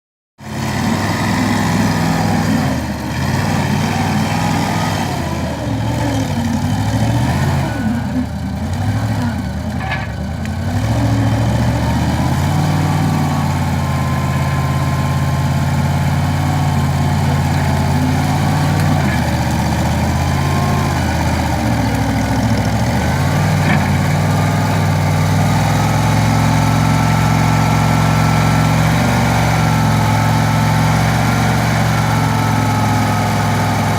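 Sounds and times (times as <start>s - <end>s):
skid steer engine running: 0.4s - 33.9s.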